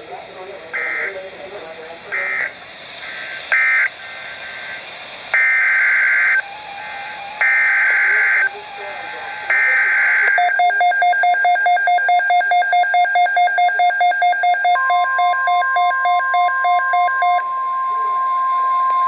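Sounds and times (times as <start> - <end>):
rapid electronic beeping: 0.7 - 1.2, 2.0 - 4.8, 5.4 - 19.0.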